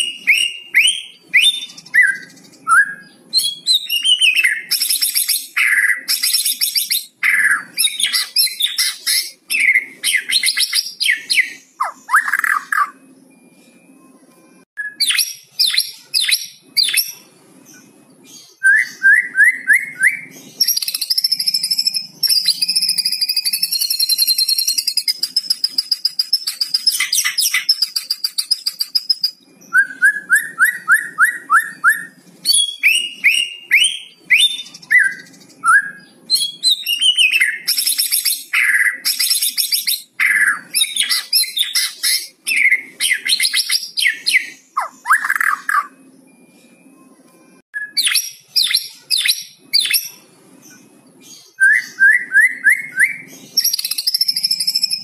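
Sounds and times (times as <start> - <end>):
bird singing varied song: 0.0 - 55.0.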